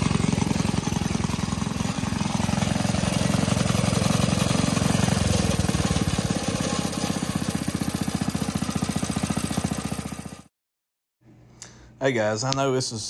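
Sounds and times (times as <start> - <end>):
single-cylinder engine running: 0.0 - 10.5.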